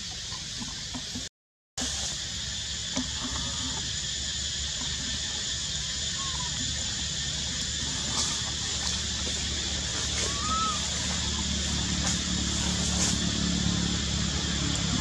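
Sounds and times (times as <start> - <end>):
insects buzzing: 1.9 - 15.0.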